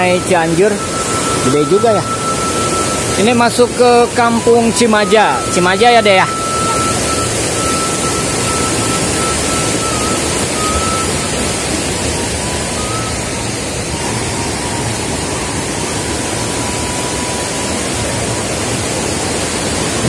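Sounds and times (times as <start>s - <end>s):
fast-flowing river rushing: 0.0s - 20.0s.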